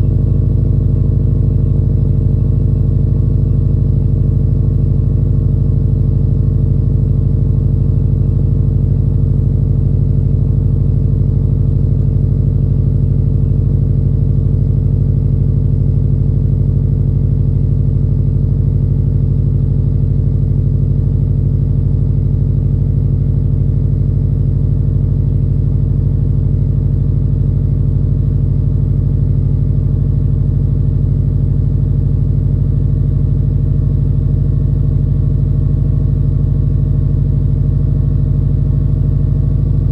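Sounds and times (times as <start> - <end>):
car exhaust idling: 0.0 - 39.9.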